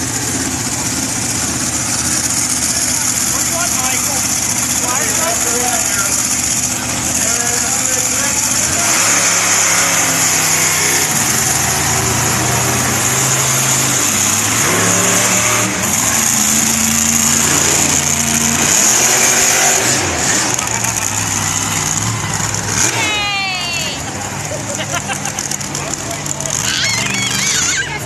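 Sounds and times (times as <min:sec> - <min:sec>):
monster truck engines revving: 0:00.0 - 0:28.0.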